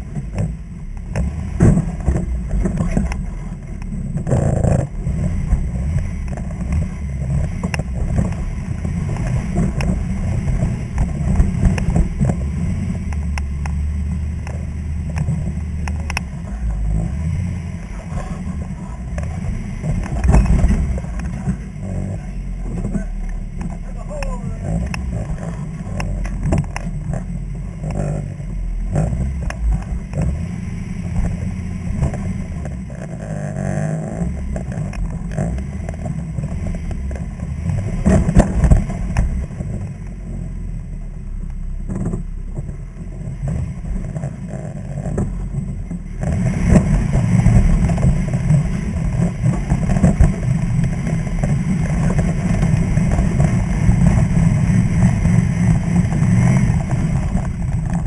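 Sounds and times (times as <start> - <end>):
knocks and rattles from rough ground: 0.0 - 40.5, 41.8 - 58.0
off-road vehicle engine running: 0.0 - 58.0.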